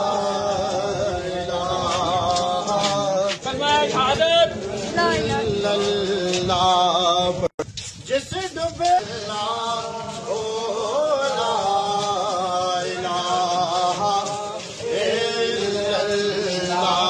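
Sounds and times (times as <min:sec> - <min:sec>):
man chanting: 0:00.0 - 0:07.5, 0:08.1 - 0:17.0.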